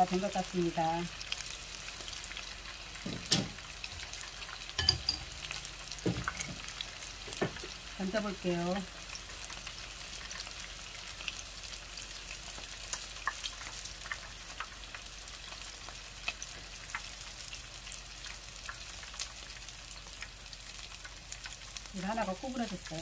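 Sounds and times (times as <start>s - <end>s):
shrimp deep-frying in oil: 0.0s - 23.0s.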